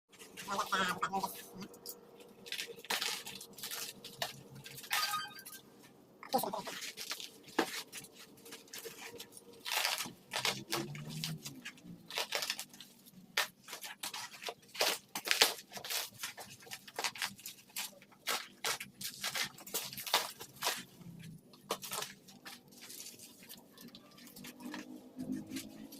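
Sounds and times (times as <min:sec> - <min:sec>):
packaging crinkling and tearing: 0:01.4 - 0:05.5, 0:06.6 - 0:25.9.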